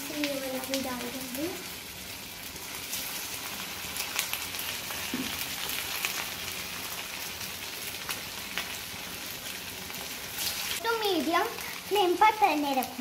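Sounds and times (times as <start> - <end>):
hot oil sizzling: 0.0 - 13.0
oil crackling and popping: 0.0 - 13.0.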